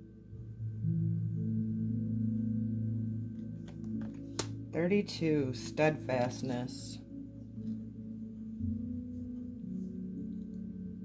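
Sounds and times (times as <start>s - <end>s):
bell-like ambient music: 0.0s - 11.0s.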